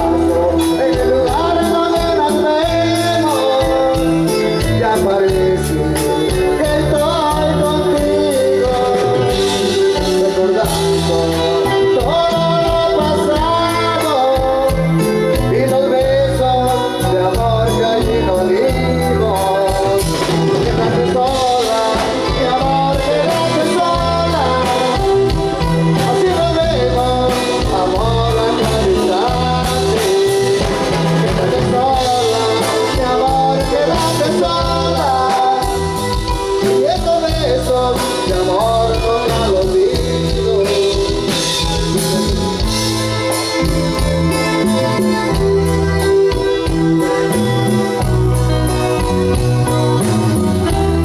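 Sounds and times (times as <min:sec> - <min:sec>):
drums and bass beat: 0:00.0 - 0:51.0
live band playing dance music: 0:00.0 - 0:51.0
person singing: 0:00.0 - 0:51.0.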